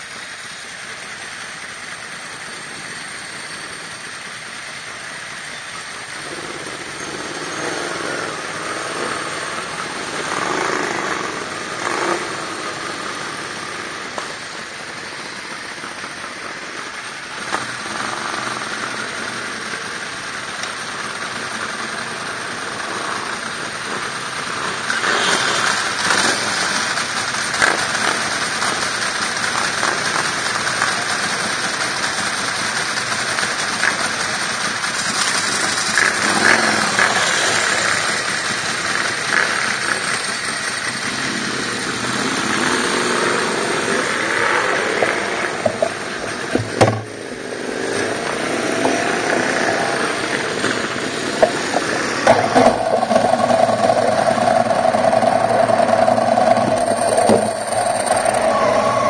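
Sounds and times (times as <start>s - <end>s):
mid-pitched hum: 0.0s - 59.0s
vehicle engine and road noise: 0.0s - 59.0s.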